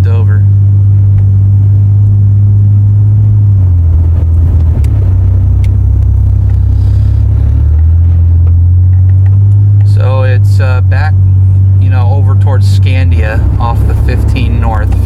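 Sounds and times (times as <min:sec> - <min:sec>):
wind buffeting a truck: 0:00.0 - 0:10.0, 0:11.2 - 0:15.0
road noise: 0:00.0 - 0:15.0.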